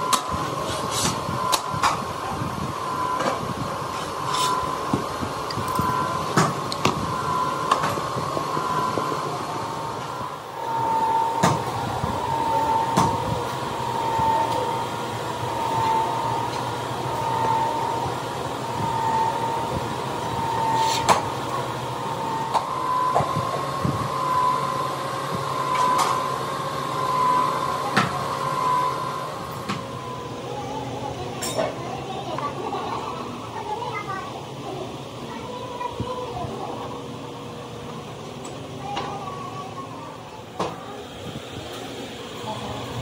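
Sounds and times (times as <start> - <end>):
machine hum with wavering whistle: 0.0 - 43.0.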